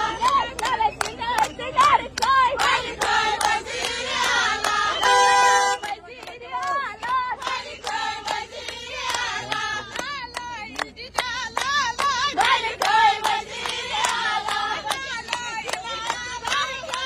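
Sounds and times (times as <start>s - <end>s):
women clapping in rhythm: 0.0s - 17.0s
women singing in unison: 0.0s - 17.0s.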